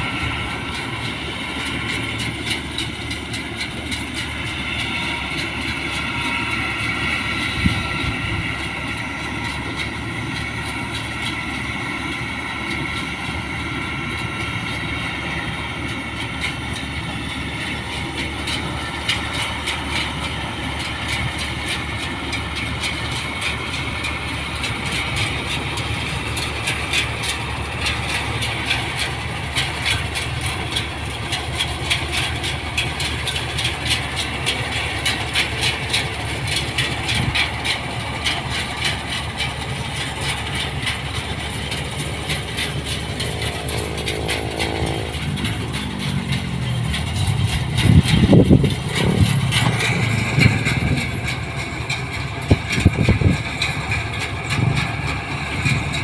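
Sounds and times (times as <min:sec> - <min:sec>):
combine harvester engine drone: 0:00.0 - 0:56.0
fast mechanical clatter: 0:00.2 - 0:56.0.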